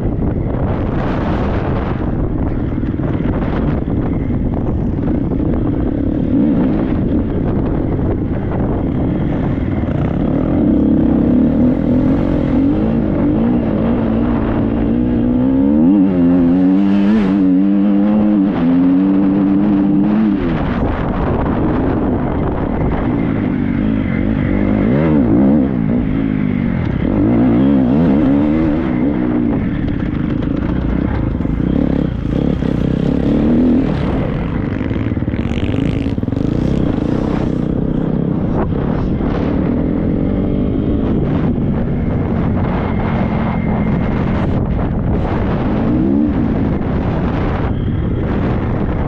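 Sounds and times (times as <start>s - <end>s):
motocross bike engine revving: 3.0s - 47.7s.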